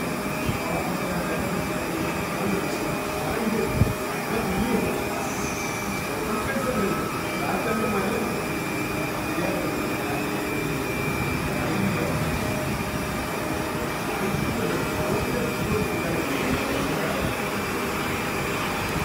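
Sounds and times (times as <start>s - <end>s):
faint high whine: 0.0s - 19.0s
restaurant room noise: 0.0s - 19.0s.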